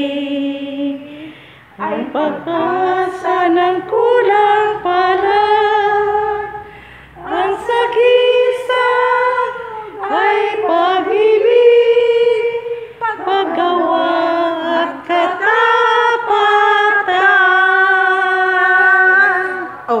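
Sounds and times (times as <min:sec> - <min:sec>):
women singing a hymn: 0:00.0 - 0:20.0.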